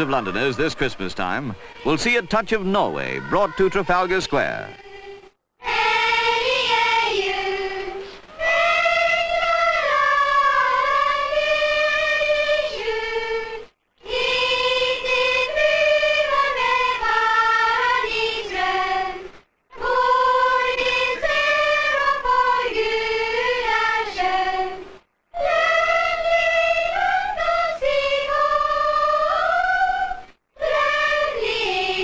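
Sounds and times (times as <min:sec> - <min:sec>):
girls choir singing a carol: 0:00.0 - 0:32.0.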